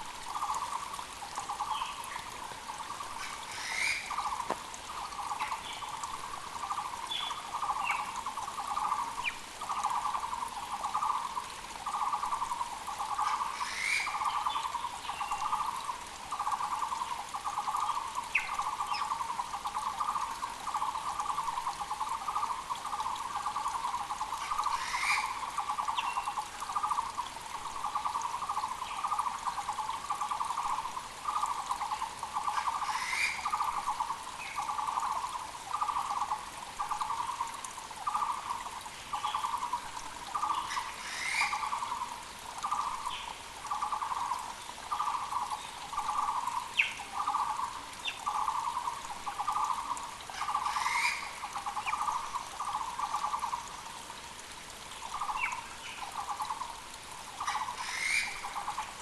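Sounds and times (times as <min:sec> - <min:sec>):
creek hissing: 0:00.0 - 0:59.0.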